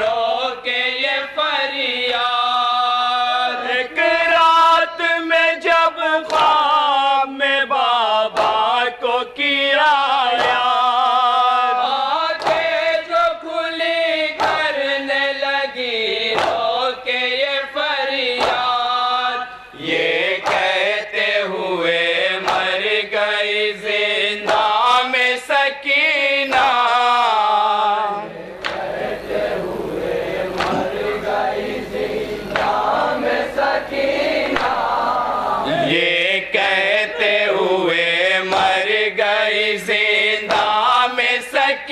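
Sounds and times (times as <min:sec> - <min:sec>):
men singing a lament over loudspeakers: 0:00.0 - 0:41.9.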